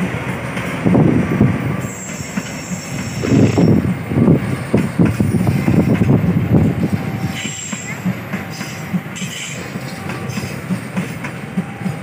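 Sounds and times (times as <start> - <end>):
train wheels clattering over rail joints: 0.0 - 12.0.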